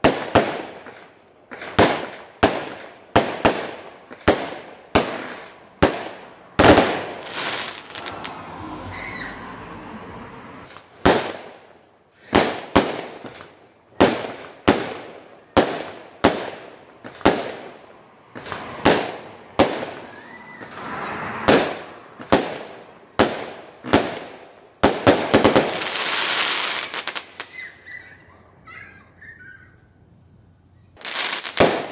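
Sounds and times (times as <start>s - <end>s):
fireworks crackling: 0.0s - 8.9s, 9.8s - 27.9s, 31.0s - 31.9s
fireworks bangs: 0.0s - 27.9s, 31.0s - 31.9s.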